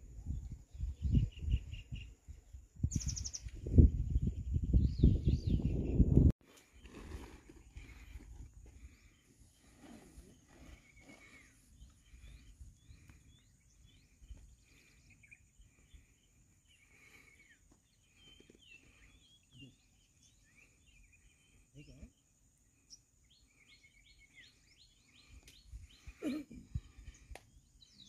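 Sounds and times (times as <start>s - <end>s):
small birds chirping: 0.3s - 28.0s.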